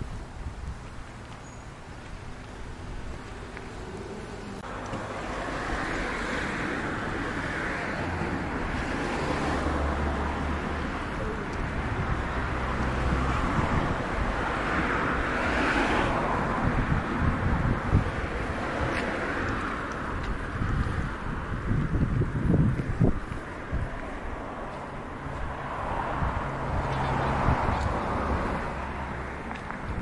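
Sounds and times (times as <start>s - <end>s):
wind on microphone: 0.0s - 1.2s, 5.4s - 30.0s
cars passing: 0.0s - 30.0s.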